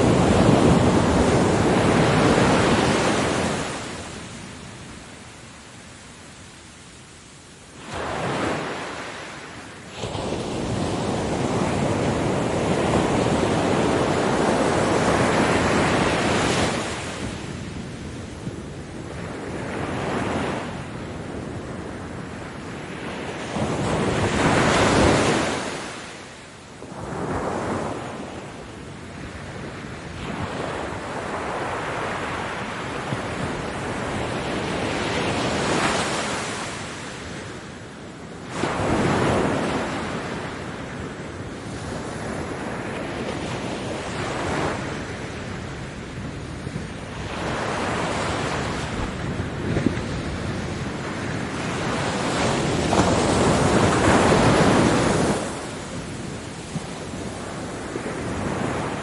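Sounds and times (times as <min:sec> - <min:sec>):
ocean waves breaking: 0:00.0 - 0:05.0, 0:07.8 - 0:41.0, 0:41.6 - 0:59.0.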